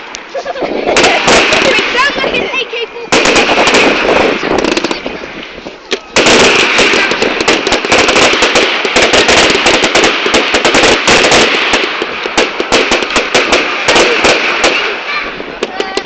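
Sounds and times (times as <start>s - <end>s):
firecracker cracks and pops: 0.0s - 2.4s, 3.1s - 16.0s.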